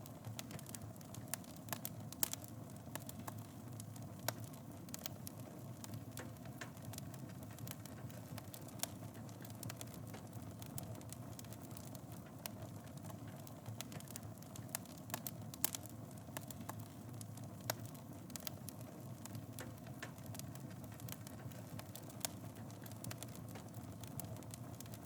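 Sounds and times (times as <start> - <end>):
fire crackling: 0.0 - 25.0.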